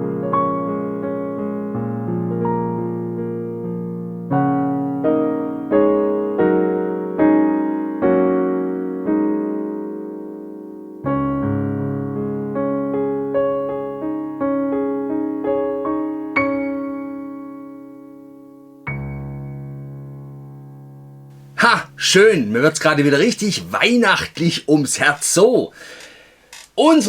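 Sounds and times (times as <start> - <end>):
gentle piano chords: 0.0 - 23.6.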